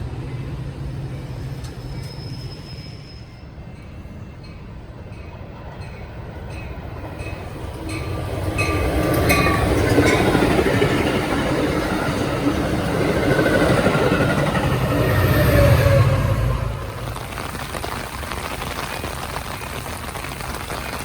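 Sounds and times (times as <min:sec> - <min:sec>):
train rumbling past: 0:00.0 - 0:17.7.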